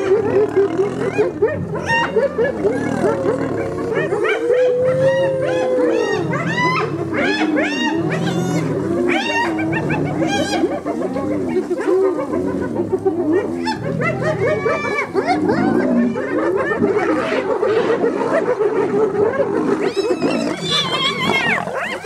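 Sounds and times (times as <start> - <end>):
hyenas high wavering calls: 0.0 - 22.0
lions growling: 0.0 - 22.0.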